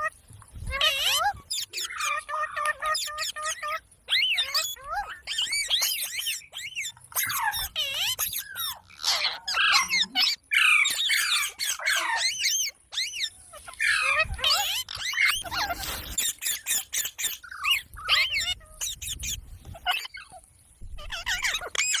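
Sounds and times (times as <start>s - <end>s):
parrot chattering and squawking: 0.0s - 22.0s.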